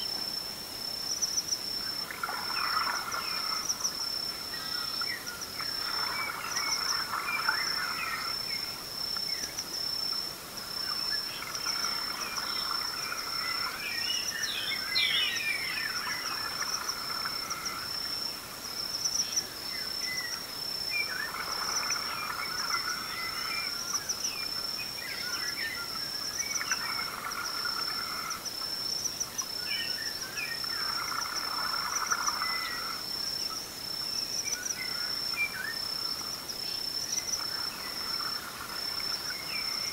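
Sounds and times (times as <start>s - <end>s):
insect trill: 0.0s - 39.9s.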